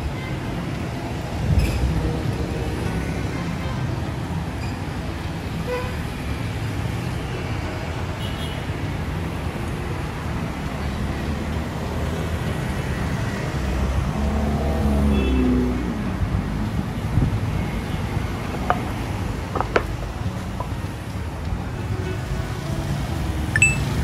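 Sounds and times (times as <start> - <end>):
cars and motorbikes passing: 0.0 - 24.0.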